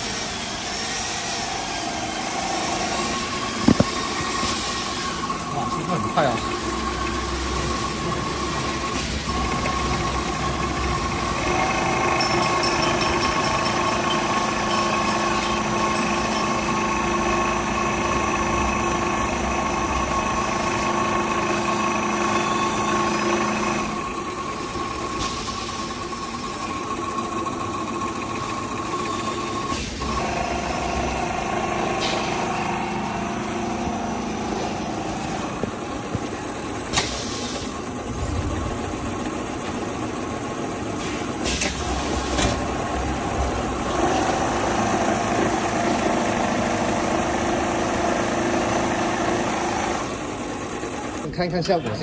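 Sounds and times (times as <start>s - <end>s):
machine motor humming: 0.0s - 51.8s
high machine whine: 0.0s - 52.0s.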